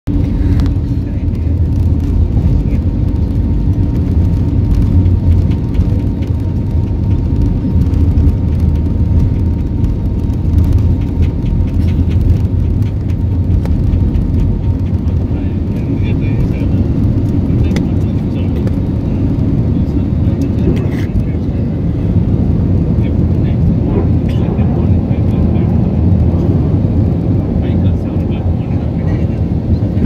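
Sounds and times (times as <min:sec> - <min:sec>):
airliner engines and wheels rumbling: 0:00.1 - 0:30.0.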